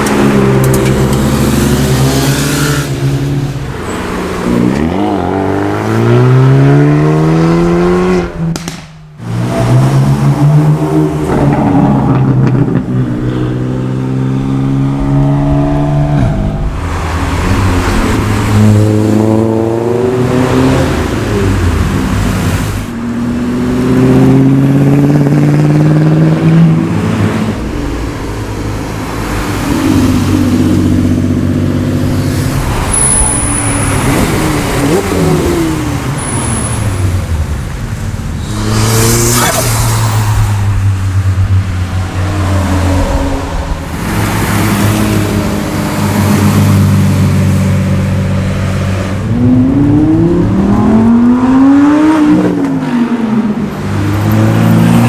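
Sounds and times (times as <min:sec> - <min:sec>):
car engines accelerating hard: 0:00.0 - 0:55.0.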